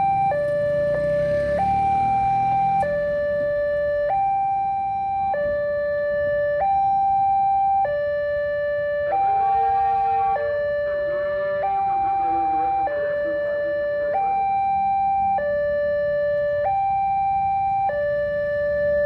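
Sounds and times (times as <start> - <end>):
level crossing two-tone alarm: 0.0 - 19.0.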